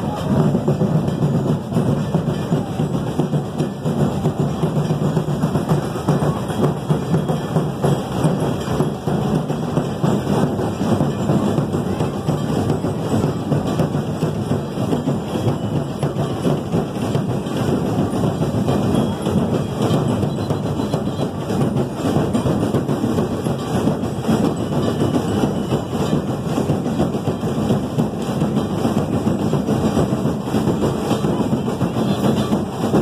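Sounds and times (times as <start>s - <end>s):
crowd din: 0.0s - 33.0s.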